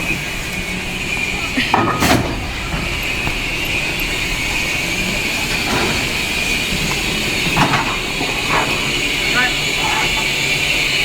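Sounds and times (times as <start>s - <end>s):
train rail noise: 0.0s - 11.0s.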